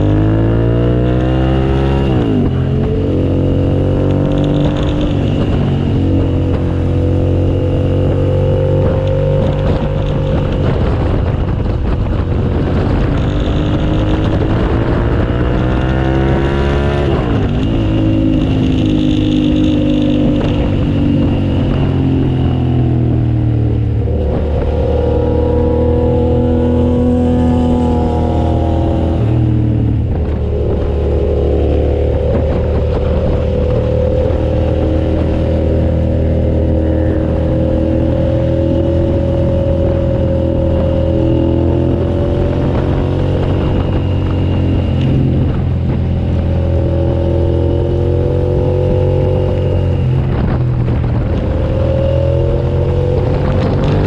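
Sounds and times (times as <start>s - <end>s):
motorcycle engine accelerating: 0.0s - 54.0s
wind rushing: 0.0s - 54.0s.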